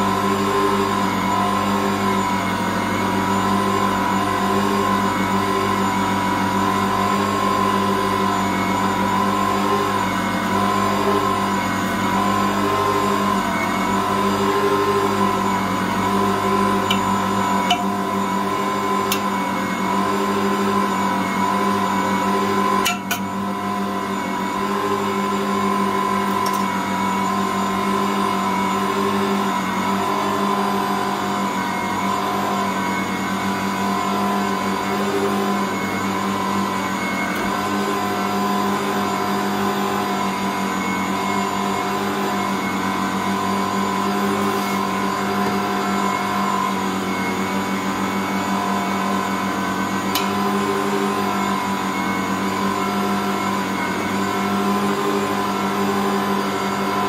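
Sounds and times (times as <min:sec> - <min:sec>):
stand mixer motor kneading dough: 0:00.0 - 0:57.0.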